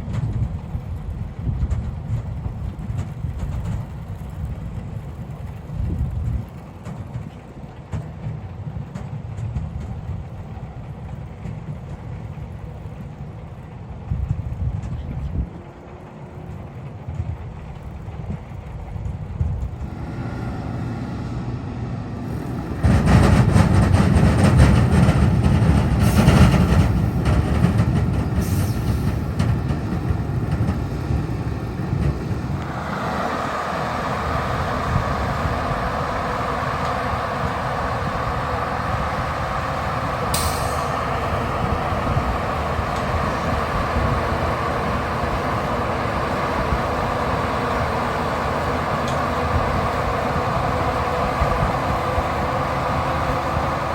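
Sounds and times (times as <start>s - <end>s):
harvest machinery engines droning: 0.0s - 53.9s.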